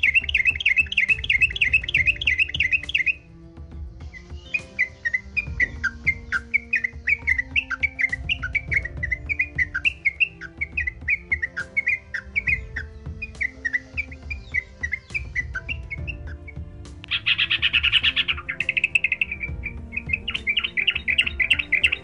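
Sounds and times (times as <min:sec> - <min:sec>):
bird singing whistled notes: 0:00.0 - 0:22.0.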